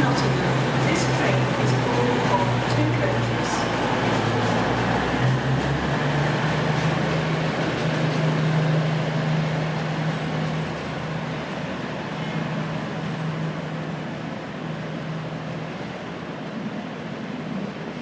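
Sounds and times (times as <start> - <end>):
diesel train engine hum: 0.0 - 18.0.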